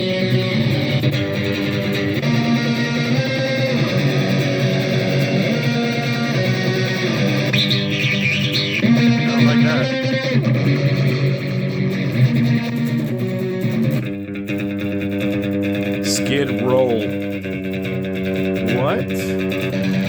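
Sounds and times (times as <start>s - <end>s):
electric guitar with effects: 0.0s - 20.0s.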